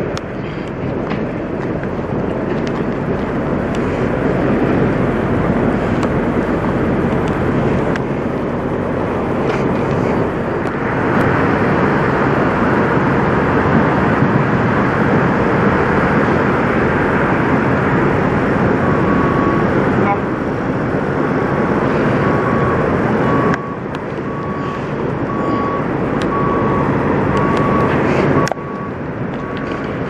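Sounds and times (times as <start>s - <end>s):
diesel truck engines idling: 0.0s - 30.0s.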